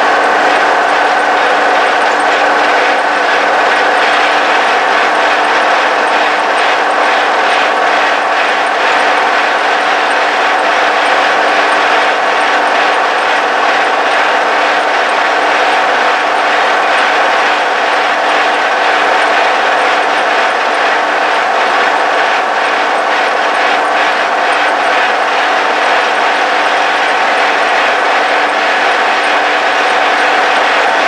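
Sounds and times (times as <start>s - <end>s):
tractor diesel engine running: 0.0s - 27.3s.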